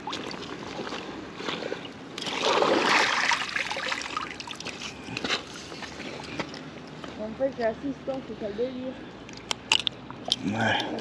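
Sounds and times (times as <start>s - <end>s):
water sloshing and splashing: 0.0s - 7.3s, 9.2s - 11.0s.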